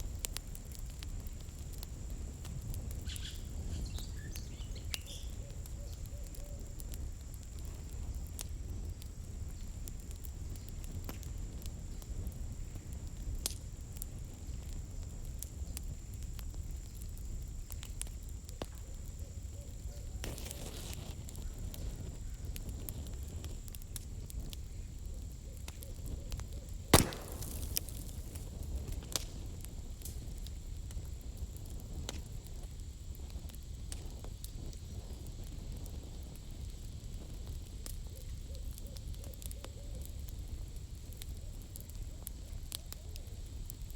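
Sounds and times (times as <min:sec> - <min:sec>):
low rush of flame: 0:00.0 - 0:19.5, 0:20.2 - 0:39.5
campfire crackling and snapping: 0:00.0 - 0:43.9.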